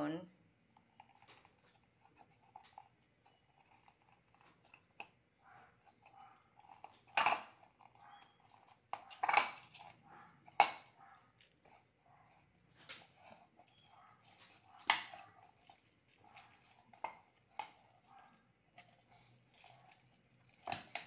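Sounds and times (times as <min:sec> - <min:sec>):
lemon squelching on hand juicer: 0:00.7 - 0:21.0.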